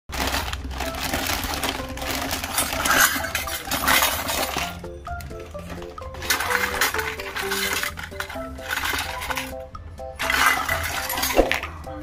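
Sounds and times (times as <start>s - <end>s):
plastic bags rustling: 0.1s - 11.8s
music notes: 0.1s - 12.0s
toy pieces clinking and clattering: 0.1s - 12.0s.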